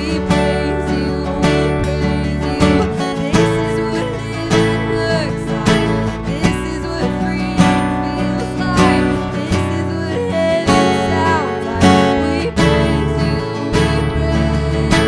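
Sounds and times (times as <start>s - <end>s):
strummed guitar: 0.0s - 15.0s
worship band music: 0.0s - 15.0s.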